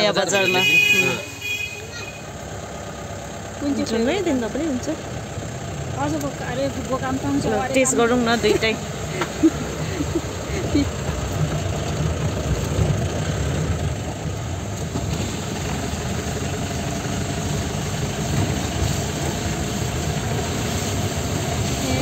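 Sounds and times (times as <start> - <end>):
road noise: 0.0 - 22.0
vehicle engine running: 0.0 - 22.0.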